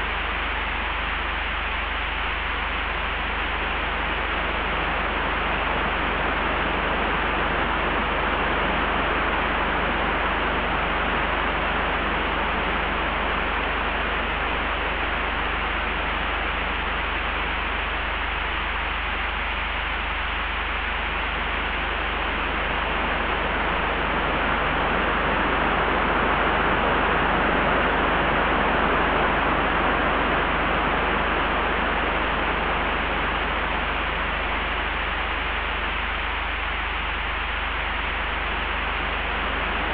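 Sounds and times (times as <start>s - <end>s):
constant low rumble: 0.0s - 39.9s.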